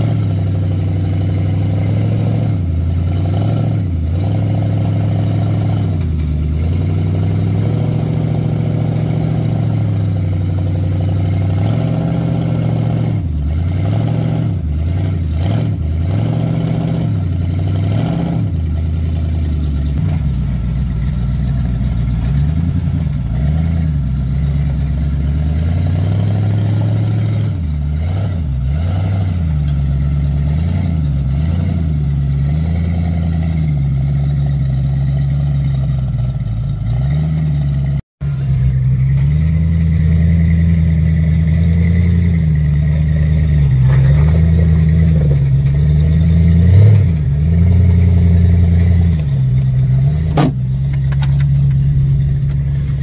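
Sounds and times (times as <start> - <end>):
buggy engine revving under load: 0.0 - 53.0.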